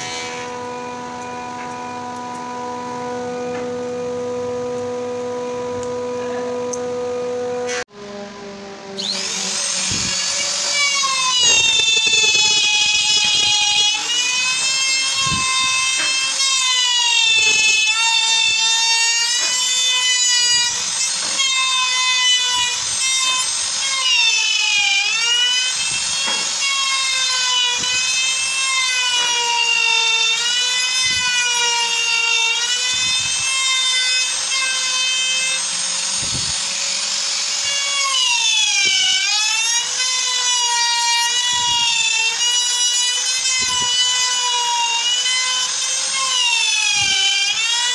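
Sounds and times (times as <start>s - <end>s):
trim router cutting wood: 0.0s - 47.9s.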